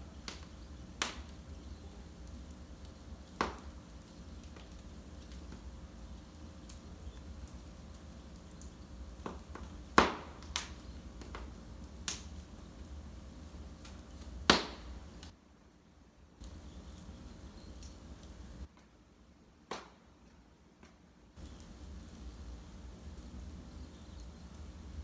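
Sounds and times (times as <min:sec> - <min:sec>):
sharp fire pops: 0:00.0 - 0:15.3, 0:16.4 - 0:18.7, 0:21.4 - 0:25.0
wood fire crackling: 0:00.0 - 0:15.3, 0:16.4 - 0:18.7, 0:21.4 - 0:25.0.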